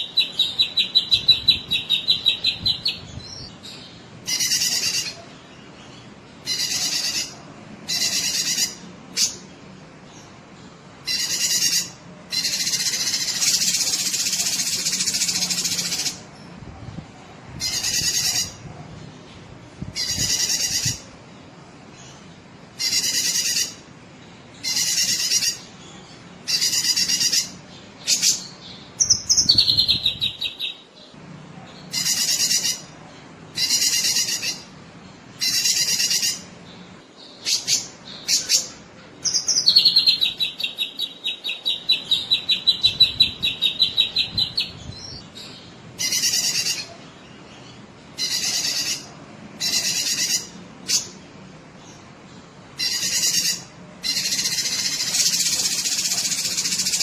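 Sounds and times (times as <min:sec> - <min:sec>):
bird chattering song: 0:00.0 - 0:10.4, 0:11.0 - 0:16.3, 0:17.6 - 0:18.7, 0:19.9 - 0:21.2, 0:22.0 - 0:52.1, 0:52.7 - 0:57.0.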